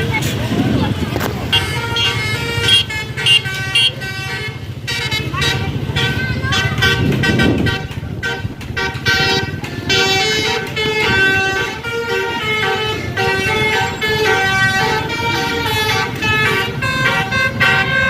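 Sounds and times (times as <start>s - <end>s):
multi-tone air horn playing a tune: 1.4s - 18.0s.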